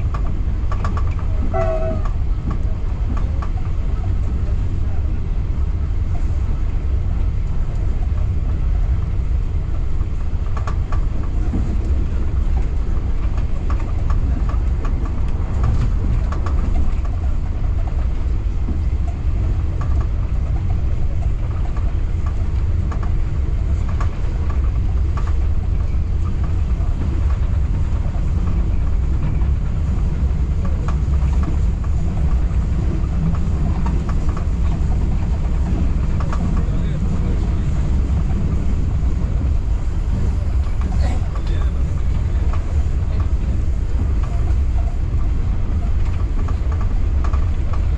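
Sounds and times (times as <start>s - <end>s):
track clicks and knocks: 0.0s - 47.9s
train wheels rumbling on rails: 0.0s - 47.9s.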